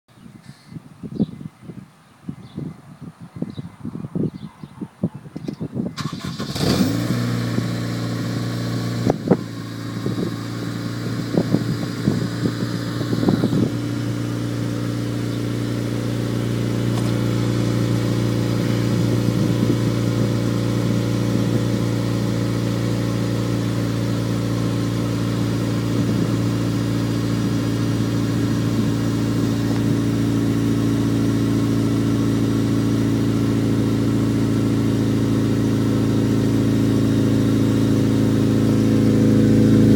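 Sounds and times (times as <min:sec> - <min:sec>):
car engine idling: 0:07.4 - 0:39.9.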